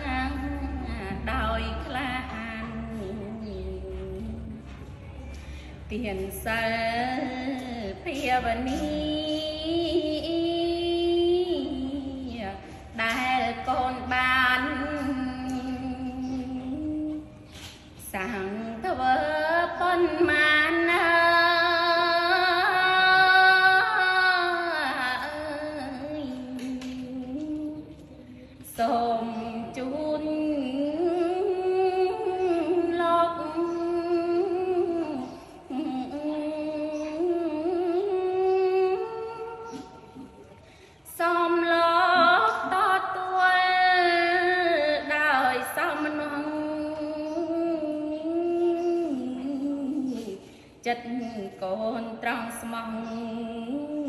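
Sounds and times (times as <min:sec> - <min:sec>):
woman chanting: 0:00.0 - 0:54.0.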